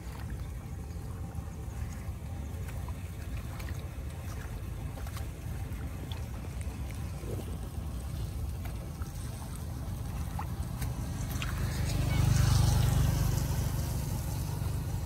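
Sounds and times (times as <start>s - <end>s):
footsteps splashing in water: 0.0s - 15.0s
water rushing into storm drain: 0.0s - 15.0s.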